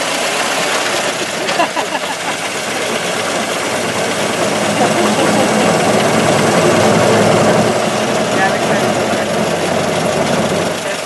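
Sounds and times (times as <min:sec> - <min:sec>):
old car engine running: 0:00.0 - 0:11.0.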